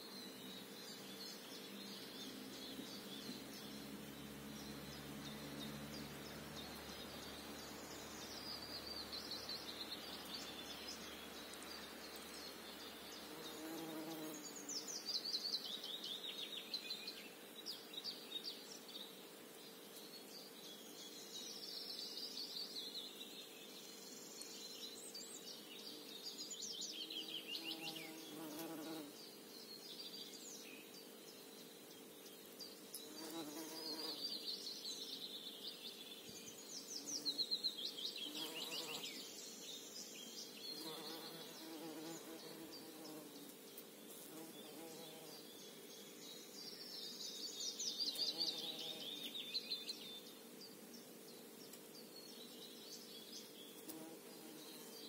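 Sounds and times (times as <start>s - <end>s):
insects buzzing: 0.0s - 16.2s, 23.3s - 55.0s.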